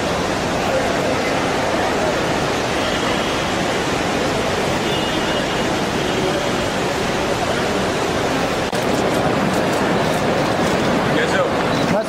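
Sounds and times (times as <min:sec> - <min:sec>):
airport terminal din: 0:00.0 - 0:12.0.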